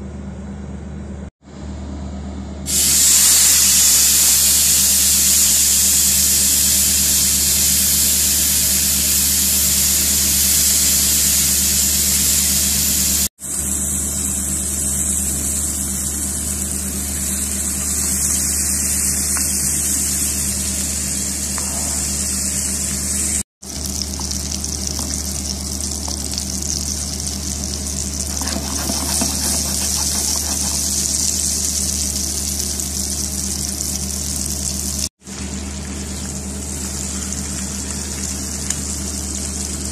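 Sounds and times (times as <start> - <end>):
steak sizzling in a frying pan: 2.7 - 35.0.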